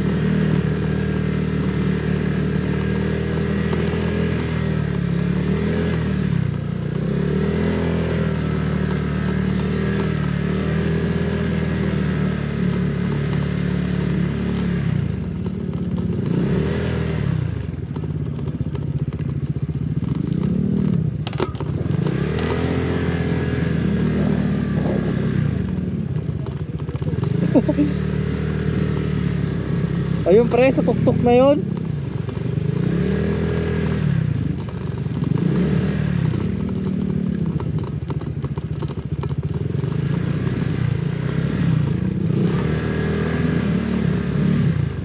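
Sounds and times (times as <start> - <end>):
scooter engine revving while riding: 0.0 - 45.0.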